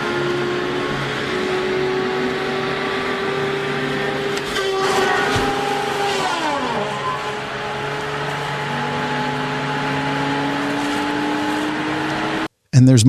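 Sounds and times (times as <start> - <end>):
tree-cutting machine engine and saw: 0.0 - 12.4.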